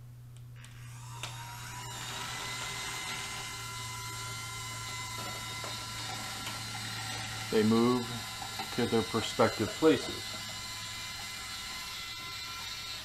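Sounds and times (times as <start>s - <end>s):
curtain motors whining: 0.6s - 13.0s.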